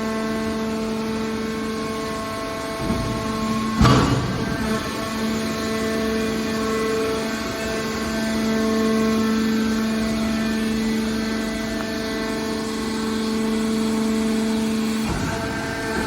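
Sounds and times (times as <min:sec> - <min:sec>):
machine power unit droning: 0:00.0 - 0:16.0.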